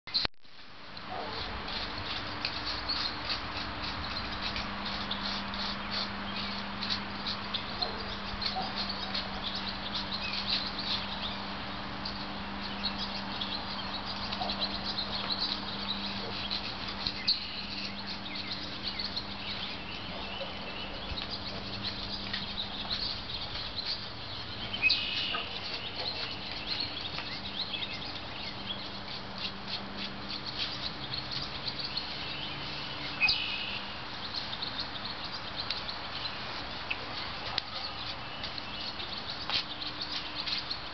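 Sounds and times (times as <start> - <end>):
small birds chirping: 0.1 - 0.3, 1.0 - 40.9
steady low hum: 0.2 - 40.9.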